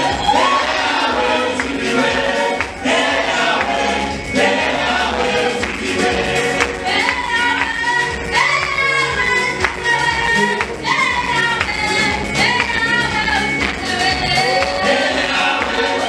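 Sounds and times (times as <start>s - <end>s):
gospel choir singing: 0.0s - 16.0s
live band playing: 0.0s - 16.0s.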